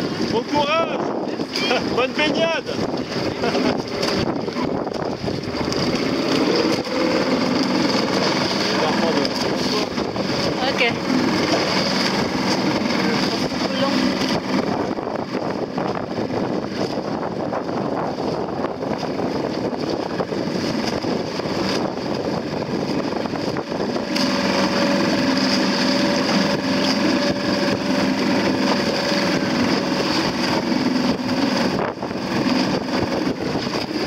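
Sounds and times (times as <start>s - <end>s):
outboard motor running: 0.0s - 34.0s
water rushing past: 0.0s - 34.0s
wind buffeting microphone: 0.0s - 34.0s.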